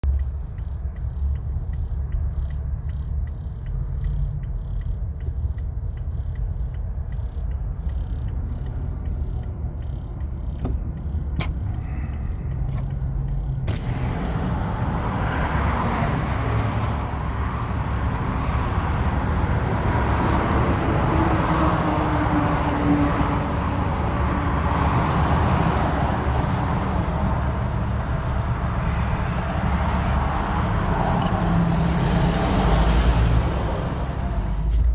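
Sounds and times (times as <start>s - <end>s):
engine and road rumble: 0.0s - 34.9s
traffic noise: 0.0s - 34.9s.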